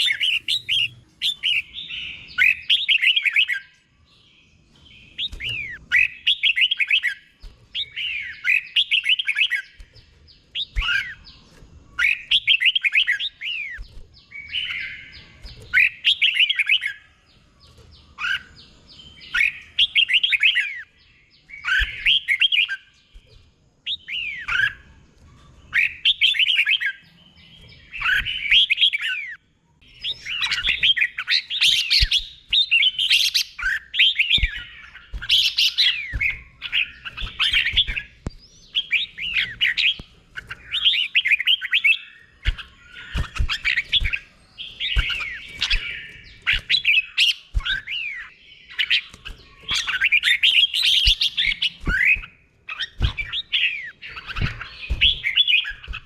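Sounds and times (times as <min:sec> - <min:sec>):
bulbul singing warbled phrases: 0:00.0 - 0:23.2, 0:25.6 - 0:56.0.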